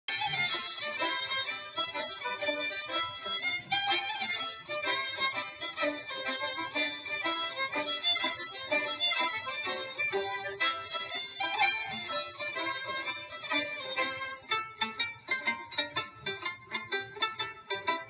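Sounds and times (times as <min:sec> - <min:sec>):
instrumental music: 0:00.1 - 0:18.0.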